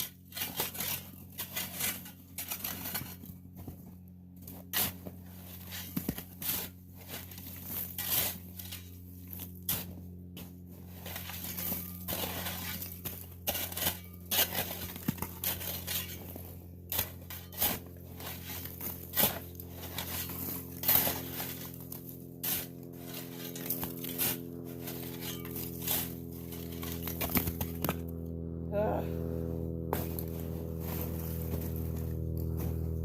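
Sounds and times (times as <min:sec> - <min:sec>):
shovel chopping icy snow: 0:00.0 - 0:03.8, 0:04.5 - 0:28.0, 0:29.9 - 0:33.0.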